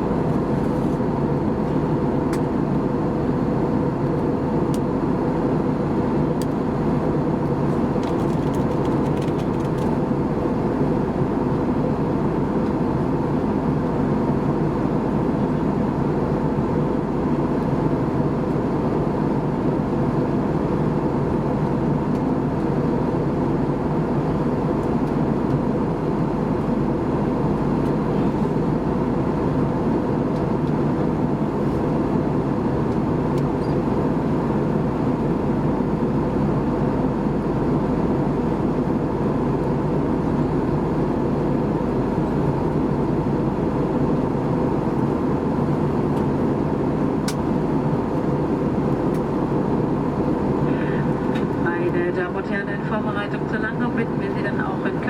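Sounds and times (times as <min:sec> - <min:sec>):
constant cabin hum: 0:00.0 - 0:55.0
jet engine and airflow drone: 0:00.0 - 0:55.0.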